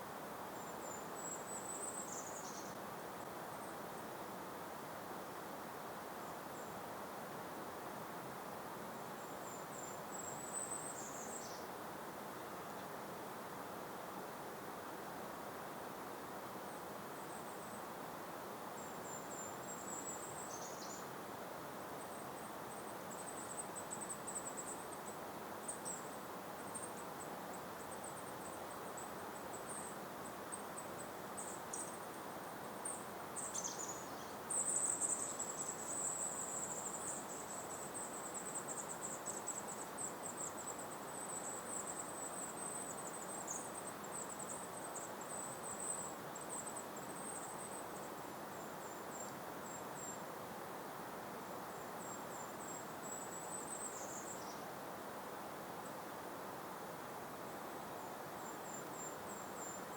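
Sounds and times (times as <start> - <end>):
gentle breeze: 0.0 - 59.9.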